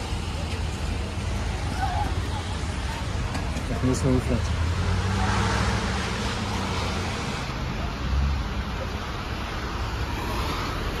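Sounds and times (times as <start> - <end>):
cars driving past on wet road: 0.0 - 11.0.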